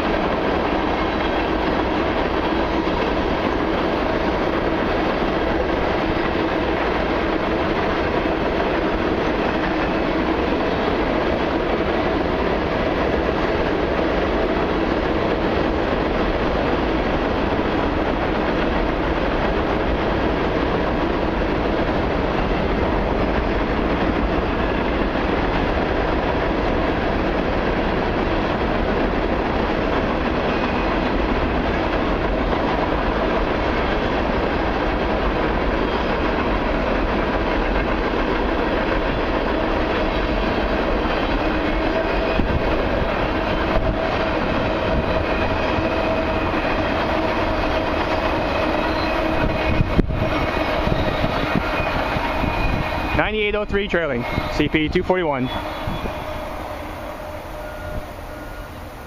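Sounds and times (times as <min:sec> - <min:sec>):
freight train wheels rumbling on rails: 0:00.0 - 0:59.0.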